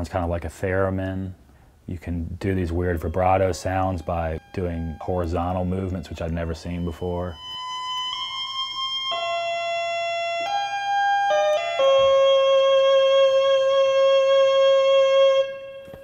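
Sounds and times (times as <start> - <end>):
electronic instrument sustained tones: 2.7 - 16.0.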